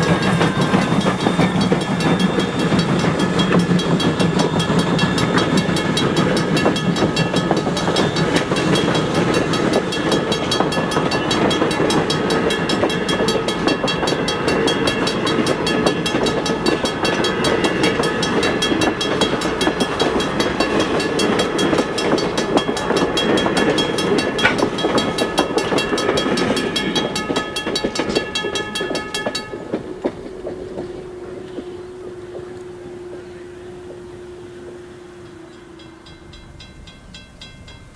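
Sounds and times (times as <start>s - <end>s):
steady high tones: 0.0s - 37.9s
train wheels clicking on rails: 0.0s - 37.9s.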